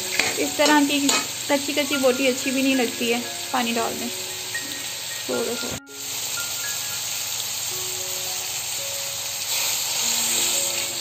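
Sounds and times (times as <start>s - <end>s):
chicken sizzling in oil: 0.0s - 11.0s
faint background music: 0.0s - 11.0s.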